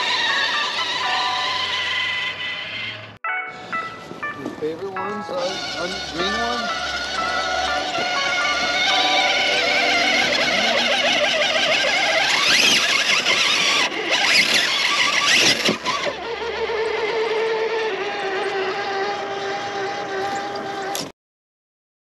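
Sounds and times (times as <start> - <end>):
electric motor whining: 0.0 - 3.2, 5.1 - 21.1.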